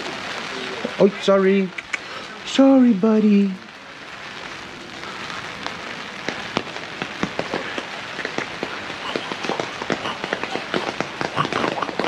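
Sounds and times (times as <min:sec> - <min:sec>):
rain pattering: 0:00.0 - 0:12.0
raindrops ticking close by: 0:00.0 - 0:12.0.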